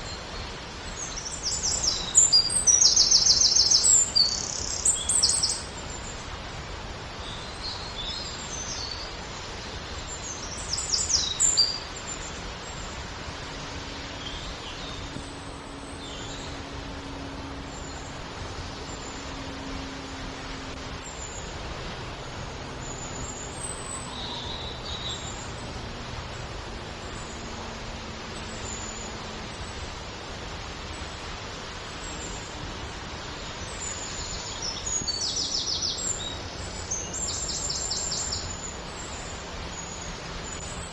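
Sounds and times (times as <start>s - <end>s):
small birds chirping: 0.0s - 6.4s, 7.0s - 40.9s
falling water rushing: 0.0s - 40.9s.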